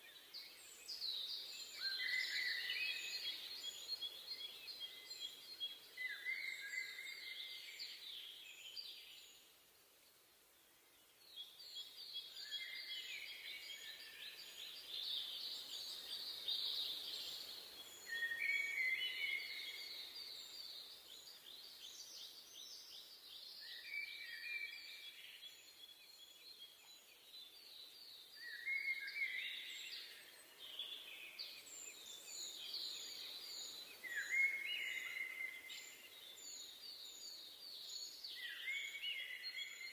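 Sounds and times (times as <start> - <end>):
forest birds singing: 0.0 - 39.9.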